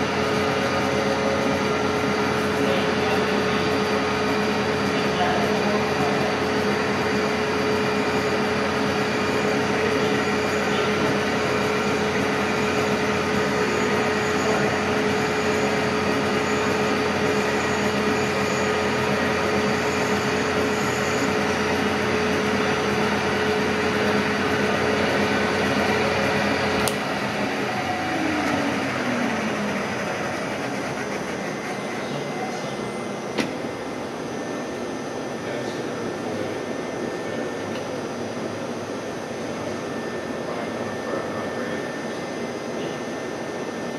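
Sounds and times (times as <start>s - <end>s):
milling machine humming: 0.0s - 43.9s
spindle winding down whine: 0.0s - 43.9s.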